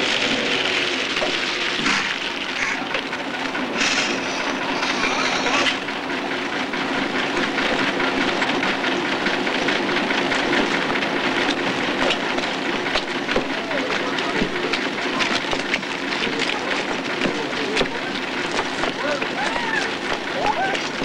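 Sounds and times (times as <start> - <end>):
diesel engine idling with rattle: 0.0 - 21.0.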